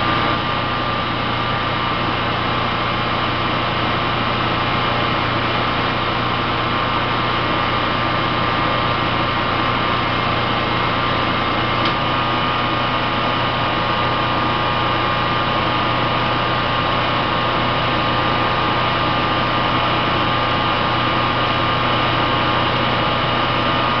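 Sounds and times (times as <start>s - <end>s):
generator engine hum: 0.0s - 24.0s.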